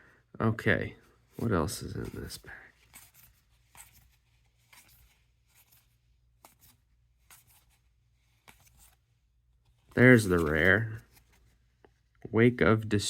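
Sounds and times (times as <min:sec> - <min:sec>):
quiet room hum: 0:00.0 - 0:13.0
cards rustling and sliding: 0:01.2 - 0:12.1.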